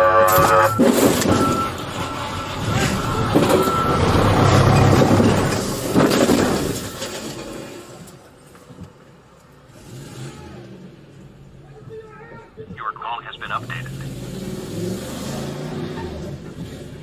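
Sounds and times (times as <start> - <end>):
vehicle engine rumble: 0.0 - 10.0, 10.6 - 17.0
road noise: 0.0 - 17.0.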